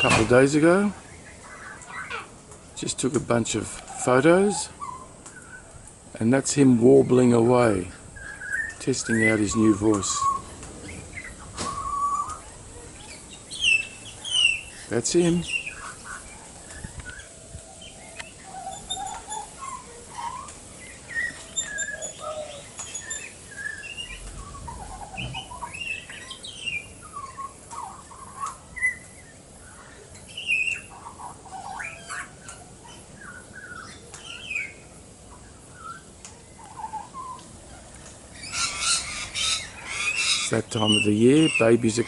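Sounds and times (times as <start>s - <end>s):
young bird warbling: 0.9s - 2.4s, 3.8s - 5.8s, 6.8s - 42.0s.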